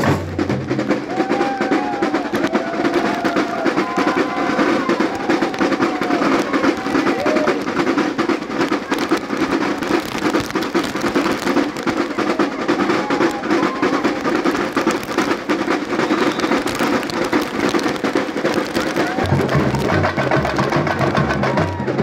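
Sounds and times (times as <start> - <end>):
samba percussion band: 0.0 - 22.0.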